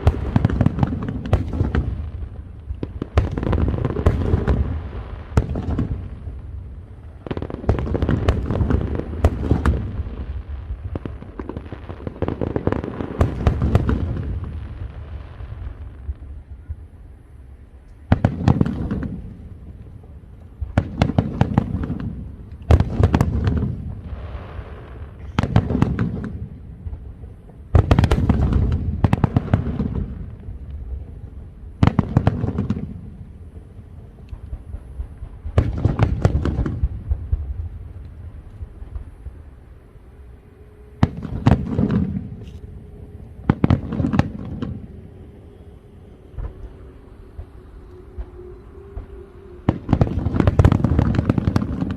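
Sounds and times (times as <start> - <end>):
fireworks crackling bangs: 0.0 - 39.8, 40.8 - 51.9.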